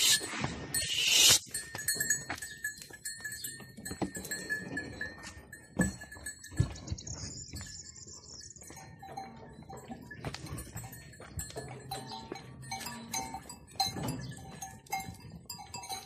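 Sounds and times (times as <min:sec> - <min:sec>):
bells clinking: 0:00.0 - 0:16.0
sheep flock moving: 0:00.0 - 0:16.0.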